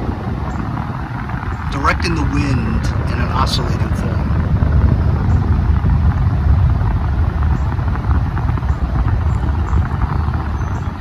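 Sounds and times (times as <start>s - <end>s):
air cooler fan blowing: 0.0s - 11.0s.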